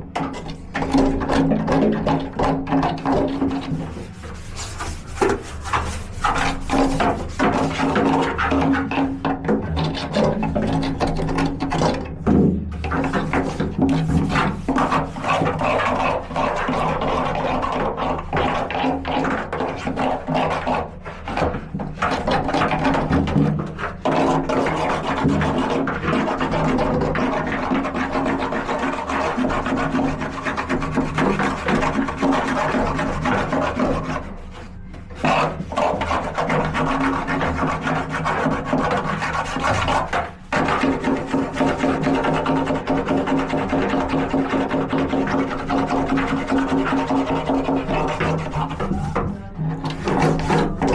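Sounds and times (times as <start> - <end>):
tool scraping caked metal: 0.2 - 50.9.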